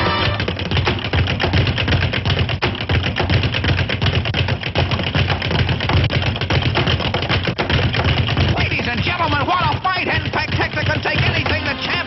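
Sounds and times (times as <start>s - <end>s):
rapid cartoon boxing punches: 0.0s - 12.0s.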